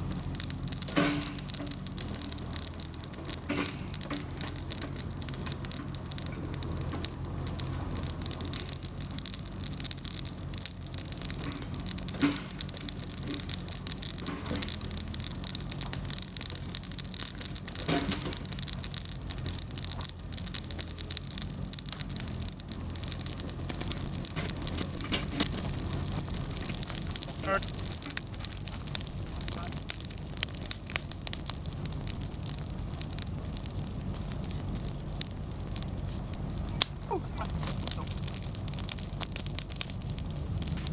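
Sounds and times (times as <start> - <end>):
brush crackling and snapping: 0.0 - 40.9
excavator diesel engine running: 0.0 - 40.9.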